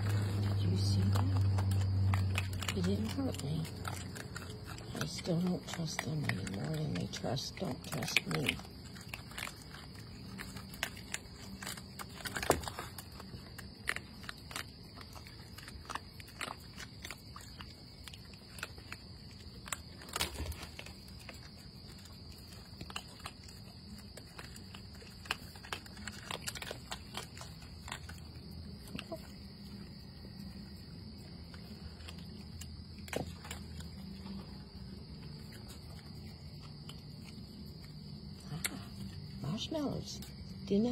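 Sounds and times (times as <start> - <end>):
raccoons chewing and crunching food: 0.0 - 40.9.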